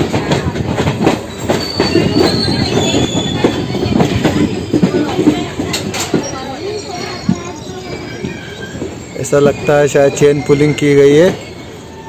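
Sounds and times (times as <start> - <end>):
train wheels clacking over rails: 0.0 - 12.0
high wheel squeal: 1.2 - 12.0.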